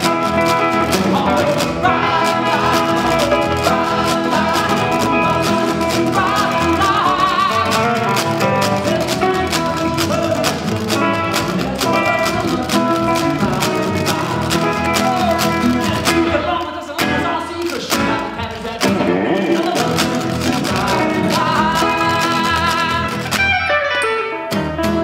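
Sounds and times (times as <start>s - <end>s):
person singing lead vocal: 0.0s - 23.6s
washboard beat: 0.0s - 23.7s
guitars playing: 0.0s - 25.0s
upright double bass: 0.0s - 25.0s.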